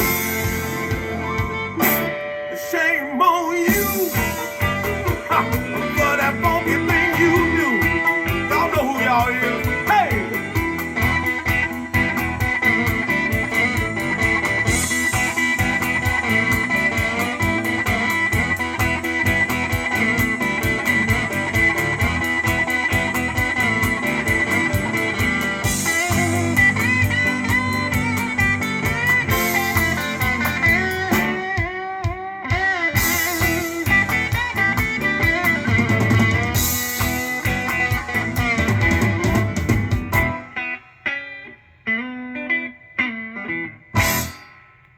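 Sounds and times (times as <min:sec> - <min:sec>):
electric blues guitar music: 0:00.0 - 0:44.9.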